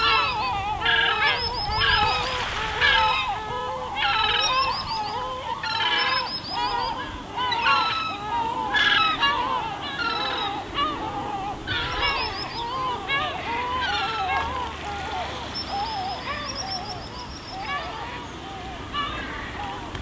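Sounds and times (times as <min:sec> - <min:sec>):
seagulls calling: 0:00.0 - 0:20.0.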